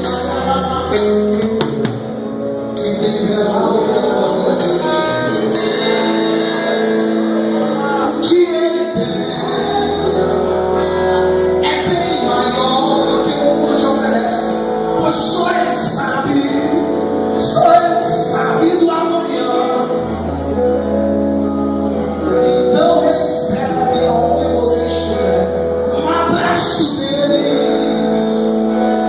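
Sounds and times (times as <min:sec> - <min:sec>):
gospel singing: 0:00.0 - 0:01.6, 0:02.2 - 0:29.0.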